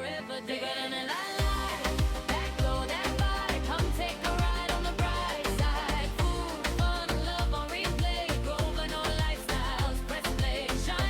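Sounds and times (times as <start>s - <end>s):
person singing: 0.0s - 11.0s
upbeat pop song: 0.0s - 11.0s
kick-drum beat: 1.4s - 11.0s.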